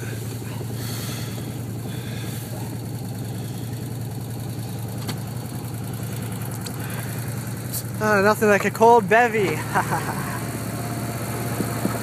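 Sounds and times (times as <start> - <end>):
engine running at low revs: 0.0 - 12.0.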